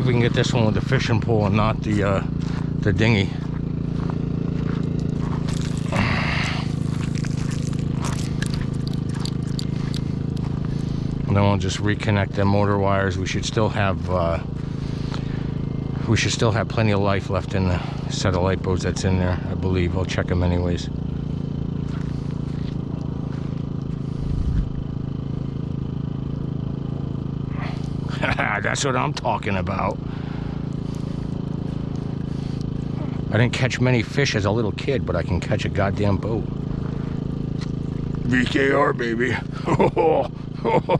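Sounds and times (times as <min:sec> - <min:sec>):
low engine-like hum: 0:00.0 - 0:40.9.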